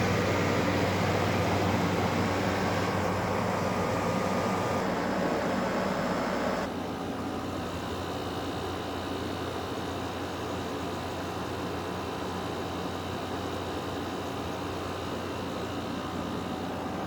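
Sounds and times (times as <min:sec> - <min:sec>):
air conditioner fan humming: 0:00.0 - 0:17.0.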